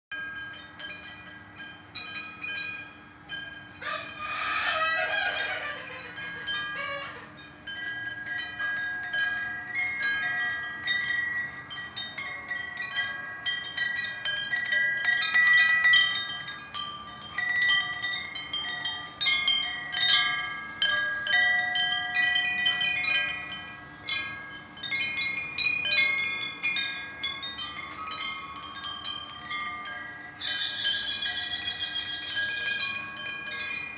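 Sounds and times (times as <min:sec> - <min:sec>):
metal wind chime ringing: 0:00.1 - 0:33.9.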